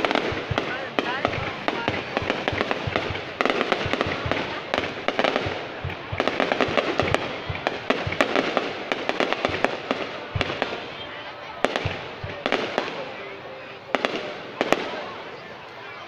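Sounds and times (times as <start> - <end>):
fireworks popping and crackling: 0.0 - 16.0.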